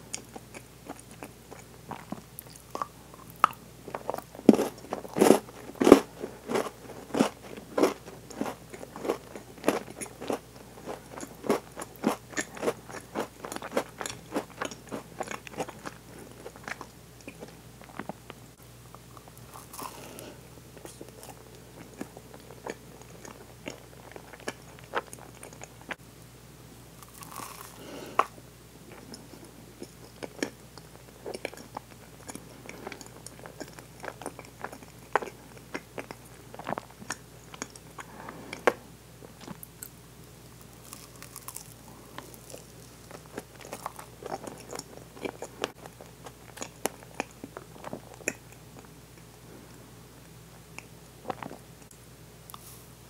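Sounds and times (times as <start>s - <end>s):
crunching and chewing chocolate: 0.0s - 26.0s, 27.0s - 52.7s.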